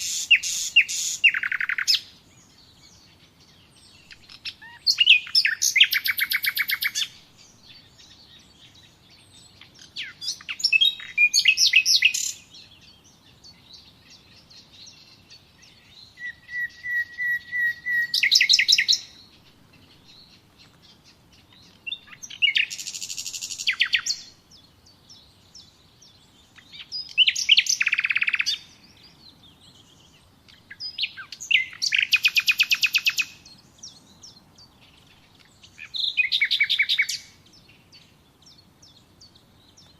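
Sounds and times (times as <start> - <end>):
songbird trilling song: 0.0 - 39.9.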